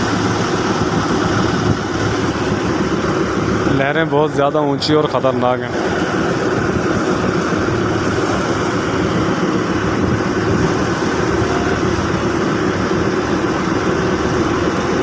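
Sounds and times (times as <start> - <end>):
boat engine running: 0.0 - 15.0
water splashing along hull: 0.0 - 15.0.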